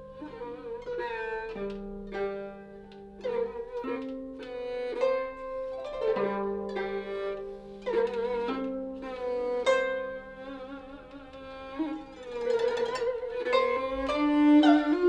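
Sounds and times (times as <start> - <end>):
bowed fiddle with vibrato: 0.0 - 15.0
plucked zither notes: 0.0 - 15.0.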